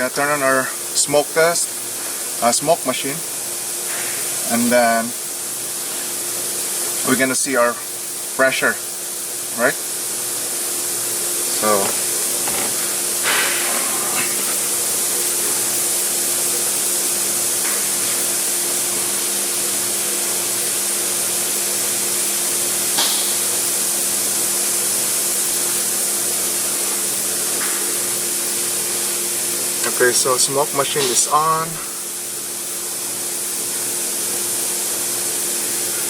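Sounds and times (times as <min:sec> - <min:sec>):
high-pitched hiss: 0:00.0 - 0:36.0
smoke machine motor hum: 0:00.0 - 0:36.0.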